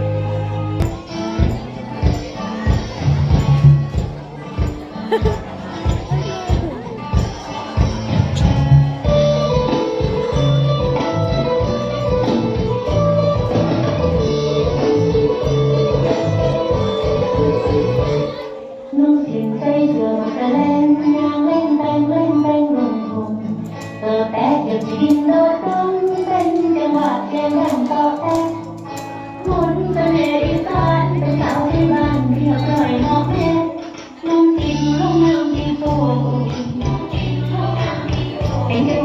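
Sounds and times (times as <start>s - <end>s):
instrumental backing with pulsing bass: 0.0s - 18.4s, 23.2s - 39.0s
person singing: 0.0s - 39.0s.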